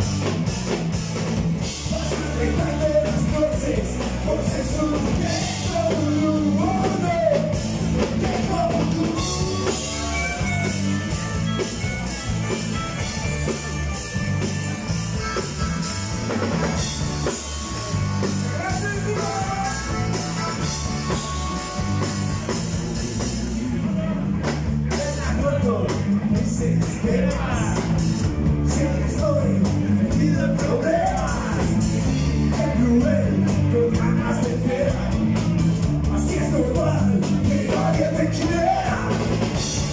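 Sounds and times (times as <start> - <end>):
drum kit: 0.0 - 39.9
electric bass: 0.0 - 39.9
electric guitar: 0.0 - 39.9
man singing: 1.6 - 14.0, 17.1 - 22.5, 24.9 - 39.9.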